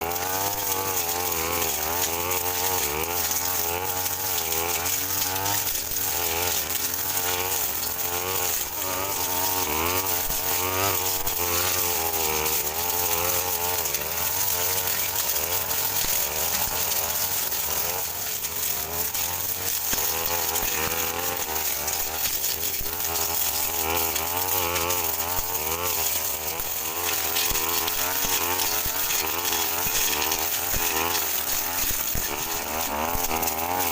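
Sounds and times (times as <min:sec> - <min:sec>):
brush cutter engine running: 0:00.0 - 0:33.9.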